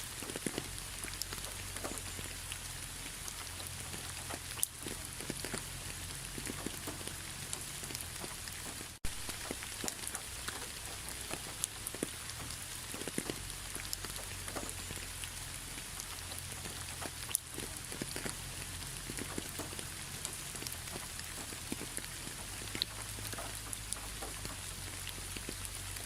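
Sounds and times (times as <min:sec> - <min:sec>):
rain drops ticking: 0:00.0 - 0:26.0.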